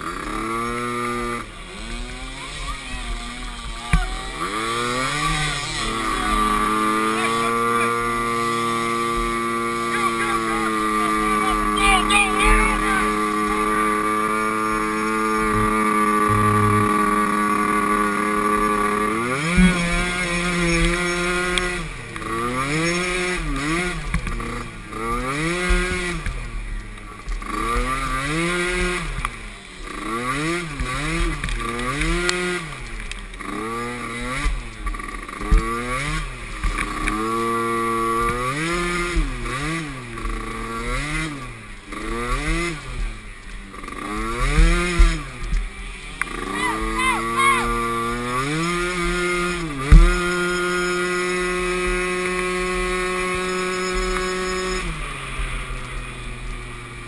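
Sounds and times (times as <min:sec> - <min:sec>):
small atv engine revving: 0:00.0 - 0:57.0.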